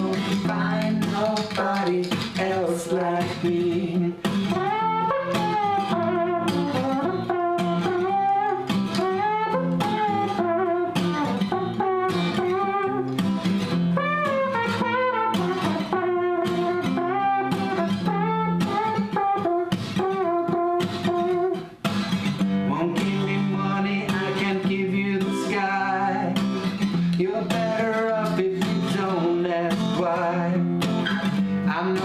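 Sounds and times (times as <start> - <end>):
wordless melody line: 0.0 - 30.8
acoustic guitar strumming: 0.0 - 32.0.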